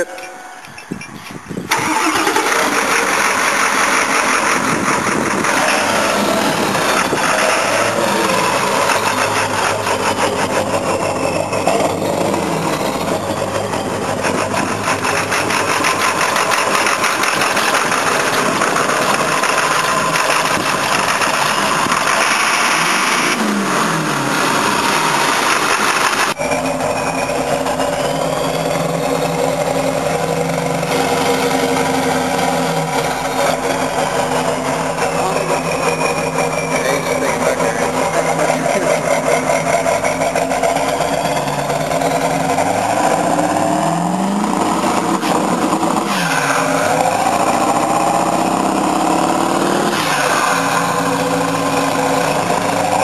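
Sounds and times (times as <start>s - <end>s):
loud diesel engine clatter: 0.0s - 53.0s.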